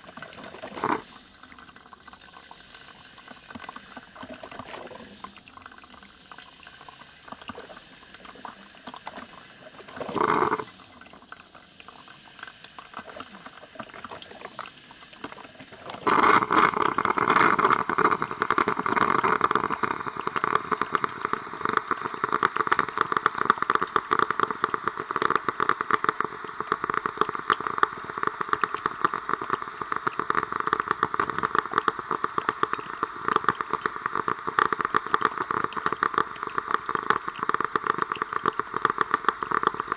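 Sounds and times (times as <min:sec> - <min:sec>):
coffee machine brewing: 0:00.0 - 0:39.9.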